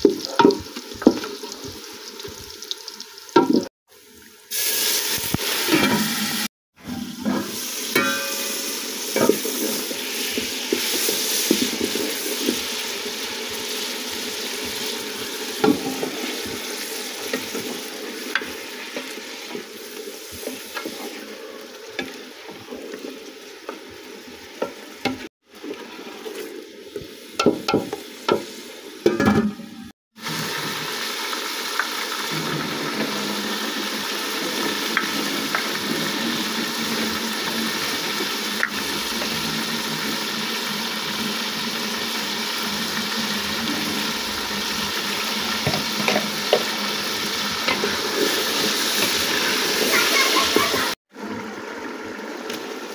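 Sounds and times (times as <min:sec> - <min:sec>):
chicken sizzling with onions: 0:00.0 - 0:29.4, 0:30.1 - 0:52.9.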